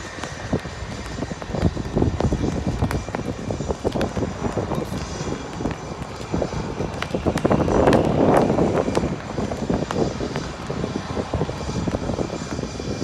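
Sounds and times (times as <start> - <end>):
helicopter engine noise: 0.0 - 13.0
helicopter rotor beating: 0.0 - 13.0.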